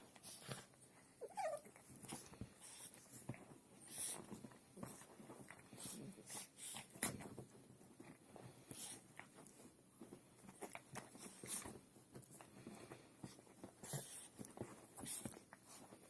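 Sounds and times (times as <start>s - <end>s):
dogs breathy puffs: 0.0s - 16.0s.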